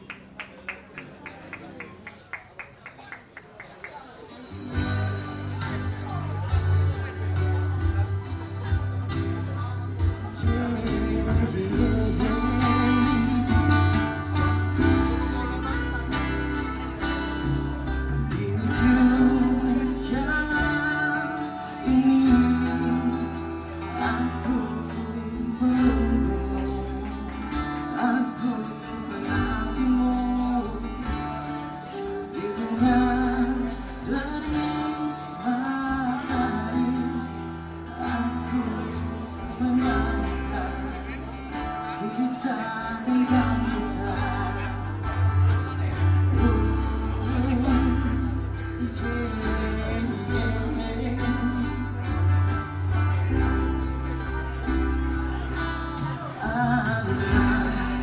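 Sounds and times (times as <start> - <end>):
drum kit beat: 3.2 - 58.0
strummed acoustic guitars: 3.9 - 58.0
person singing: 4.5 - 58.0.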